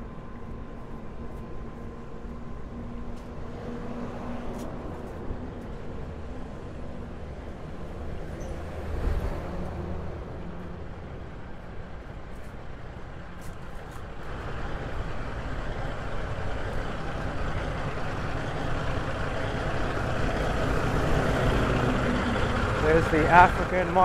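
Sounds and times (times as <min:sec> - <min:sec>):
truck engines rumbling: 0:00.0 - 0:24.0.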